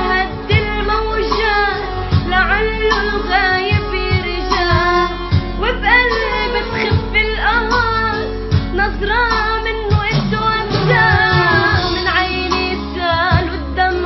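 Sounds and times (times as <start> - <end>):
rhythmic accompaniment with beat: 0.0 - 14.0.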